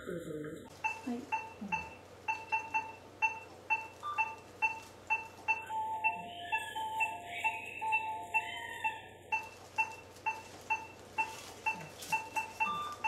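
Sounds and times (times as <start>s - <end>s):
patient monitor beeping: 0.7s - 13.0s
lower monitor beep: 0.8s - 13.0s.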